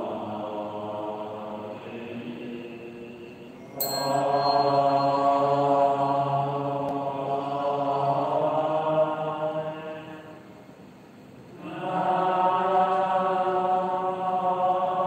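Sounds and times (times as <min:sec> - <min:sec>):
person chanting: 0:00.0 - 0:10.4, 0:11.6 - 0:15.0.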